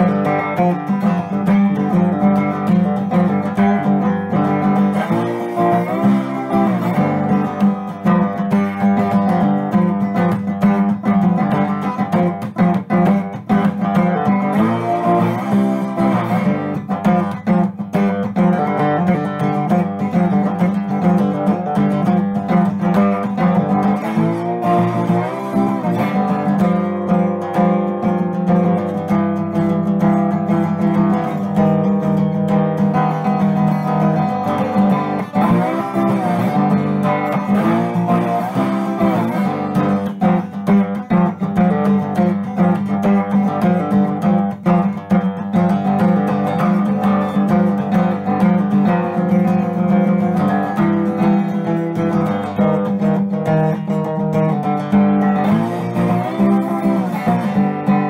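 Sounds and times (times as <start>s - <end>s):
slide guitar blues: 0.0s - 58.0s.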